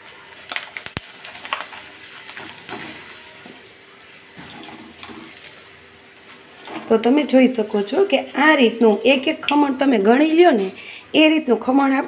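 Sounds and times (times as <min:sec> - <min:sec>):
potato frying in hot oil: 0:00.0 - 0:12.0.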